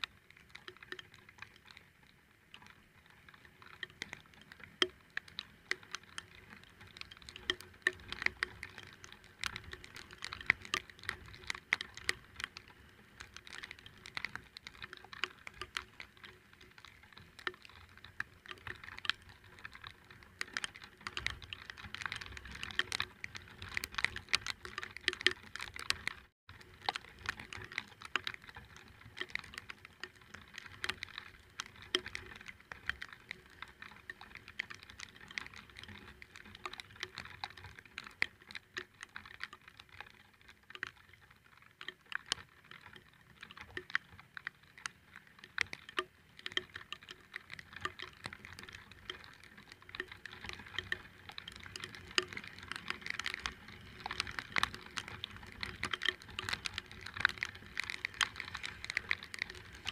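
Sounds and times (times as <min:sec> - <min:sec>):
raindrops on hard surface: 0:00.0 - 0:59.9.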